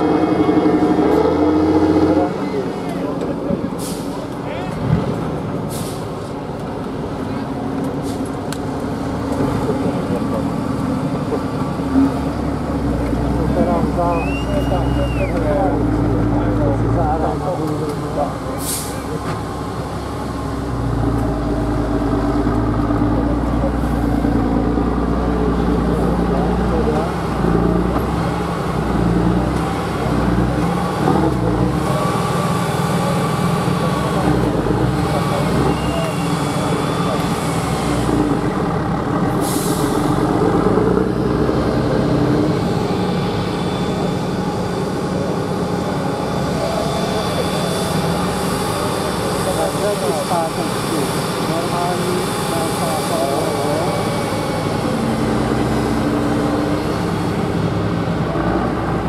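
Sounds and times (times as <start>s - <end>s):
heavy truck engine droning: 0.0s - 59.0s.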